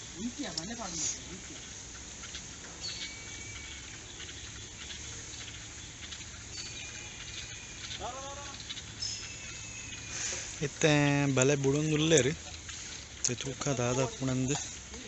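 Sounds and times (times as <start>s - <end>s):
cast net rustling on grass: 0.0s - 15.0s
high chirps: 0.0s - 15.0s
steady low hum: 0.0s - 15.0s.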